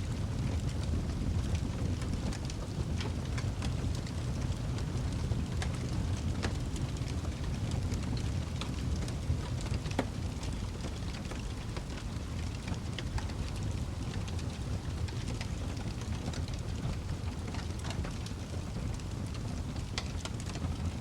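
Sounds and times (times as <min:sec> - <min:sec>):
fire popping and snapping: 0:00.0 - 0:21.0
low rumble of burning: 0:00.0 - 0:21.0.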